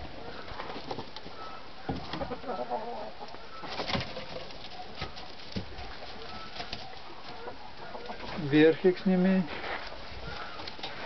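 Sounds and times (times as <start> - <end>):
farmyard birds calling: 0.0 - 11.0.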